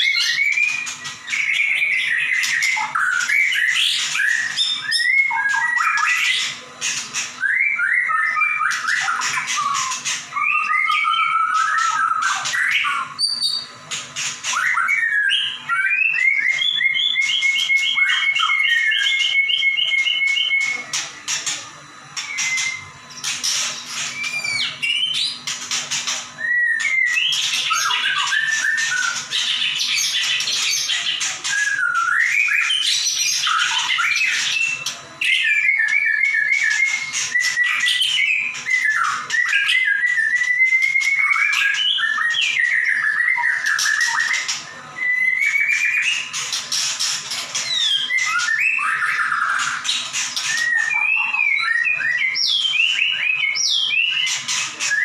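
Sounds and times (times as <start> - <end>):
bird singing whistled phrases: 0.0 - 6.6, 7.4 - 13.8, 14.4 - 21.5, 22.2 - 55.0.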